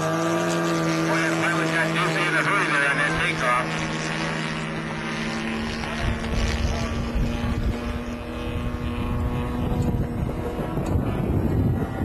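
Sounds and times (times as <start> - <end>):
low rumbling noise: 0.0 - 12.0
model airplane engine droning: 0.0 - 12.0.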